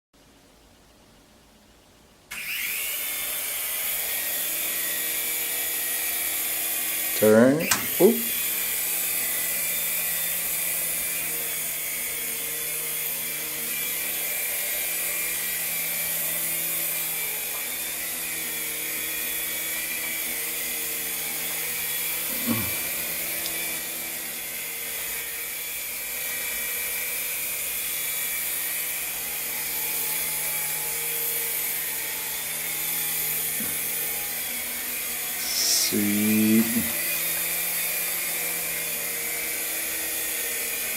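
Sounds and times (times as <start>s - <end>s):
toy helicopter rotor whirring: 2.3s - 40.9s.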